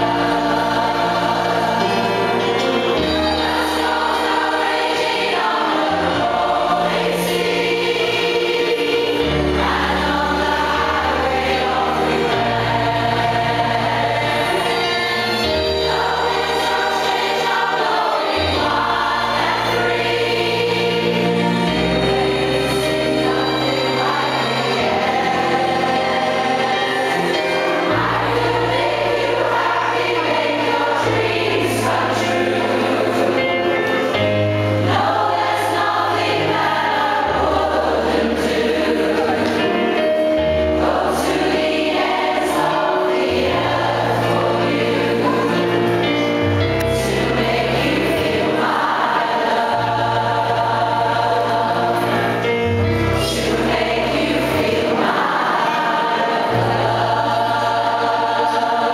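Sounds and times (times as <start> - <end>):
choir singing: 0.0 - 58.9.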